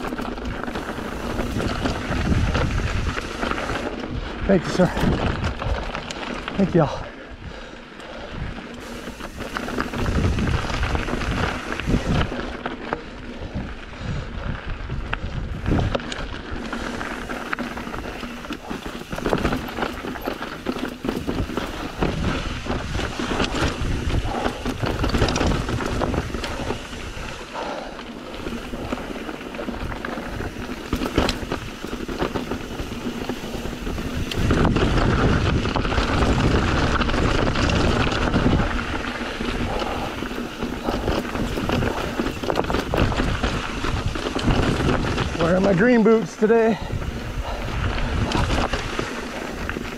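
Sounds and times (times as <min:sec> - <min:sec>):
bike knocks and rattles: 0:00.0 - 0:07.0, 0:15.4 - 0:46.1, 0:46.8 - 0:49.9
tyres rolling over dirt and rock: 0:00.0 - 0:07.4, 0:08.4 - 0:49.9
wind rushing over microphone: 0:00.0 - 0:49.9.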